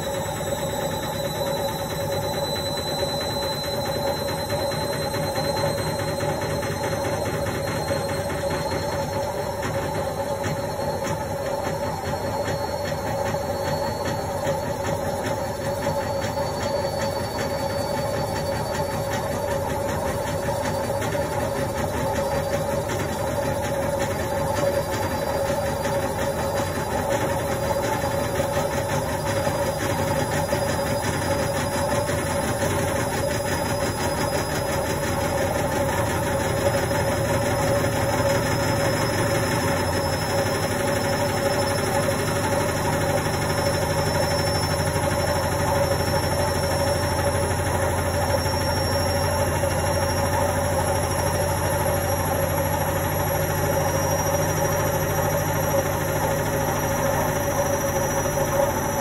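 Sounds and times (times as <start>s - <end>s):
high whine rising in pitch: 0.0s - 59.0s
washing machine spinning: 0.0s - 59.0s.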